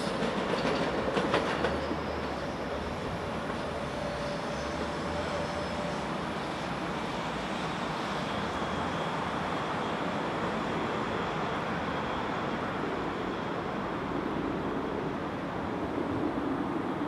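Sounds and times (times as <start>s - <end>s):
distant train rumble: 0.0s - 17.0s.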